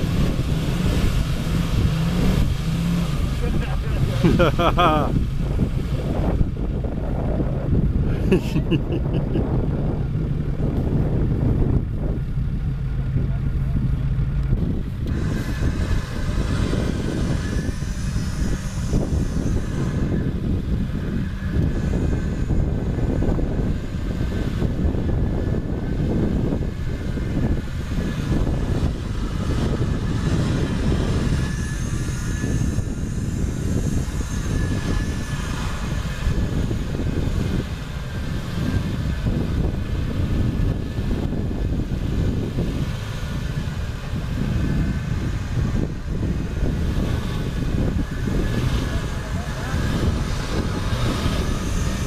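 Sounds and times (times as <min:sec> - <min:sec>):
engine running under load: 0:00.0 - 0:52.0.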